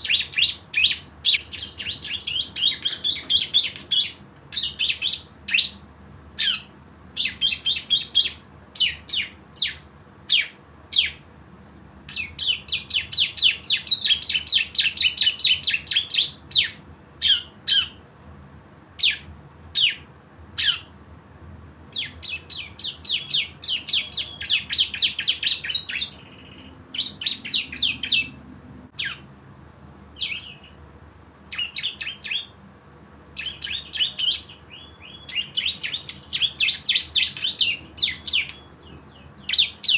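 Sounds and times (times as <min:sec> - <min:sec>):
songbird chips and rattling song: 0:00.0 - 0:18.0, 0:19.0 - 0:21.0, 0:21.9 - 0:29.3, 0:30.2 - 0:30.9, 0:31.5 - 0:32.6, 0:33.3 - 0:39.9.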